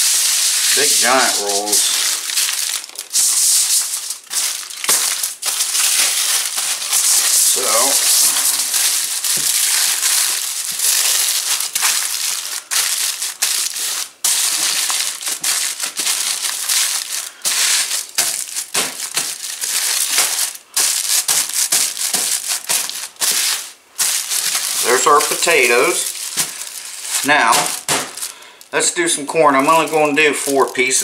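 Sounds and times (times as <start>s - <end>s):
aluminium foil crinkling: 0.0s - 31.0s.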